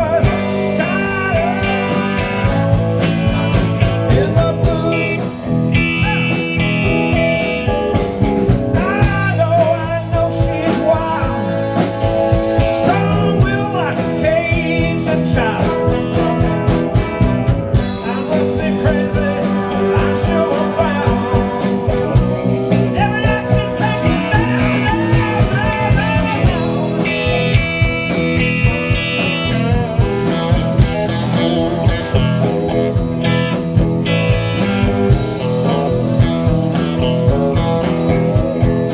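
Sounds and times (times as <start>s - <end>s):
drum kit beat: 0.0s - 38.9s
electric bass: 0.0s - 38.9s
electric guitar: 0.0s - 38.9s.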